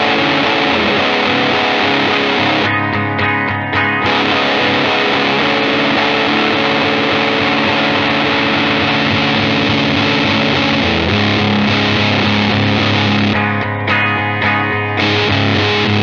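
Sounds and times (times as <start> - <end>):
fuzzed electric guitar: 0.0 - 16.0.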